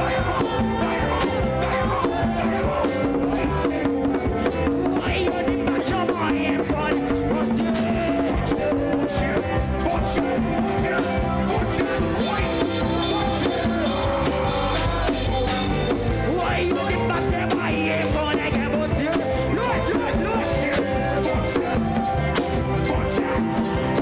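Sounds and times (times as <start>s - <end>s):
drum kit beat: 0.0s - 24.0s
live band music: 0.0s - 24.0s
people singing: 0.0s - 24.0s.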